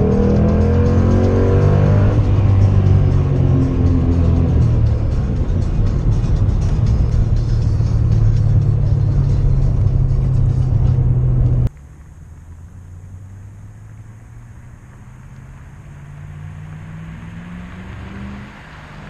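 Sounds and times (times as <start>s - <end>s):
car approaching: 0.0s - 19.0s
car engine drone from inside cabin: 0.0s - 19.0s.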